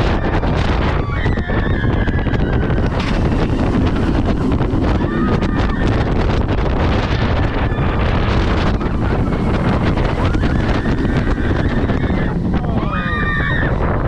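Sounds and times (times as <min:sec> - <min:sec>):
roller coaster train rumble: 0:00.0 - 0:14.0
wind rushing over microphone: 0:00.0 - 0:14.0.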